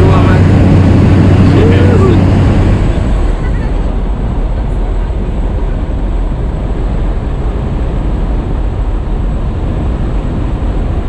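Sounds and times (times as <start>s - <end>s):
aircraft engine noise: 0.0s - 11.0s
wind rushing: 0.0s - 11.0s.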